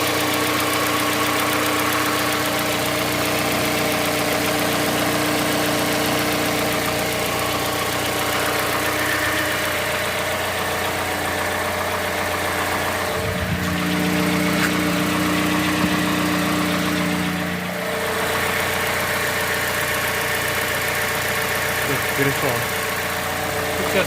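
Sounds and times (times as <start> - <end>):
car engine idling with knock: 0.0 - 24.0.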